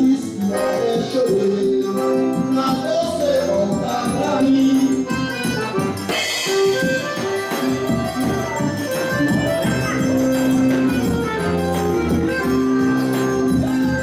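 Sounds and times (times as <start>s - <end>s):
accordion melody: 0.0s - 14.0s
rattling percussion beat: 0.0s - 14.0s.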